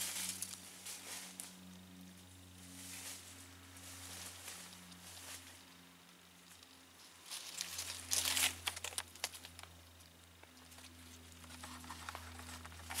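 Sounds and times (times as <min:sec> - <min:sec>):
dry leaves and twigs crackling: 0:00.0 - 0:13.0
faint low hum: 0:00.0 - 0:13.0.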